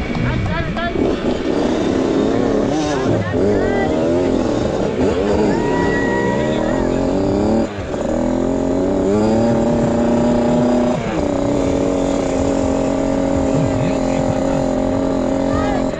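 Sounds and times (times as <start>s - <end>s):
motocross bike engine revving: 0.0s - 15.9s.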